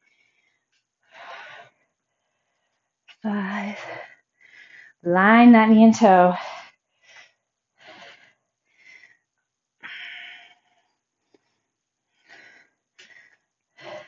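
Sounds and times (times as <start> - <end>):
woman breathing hard: 0.0 - 5.0, 6.5 - 14.0.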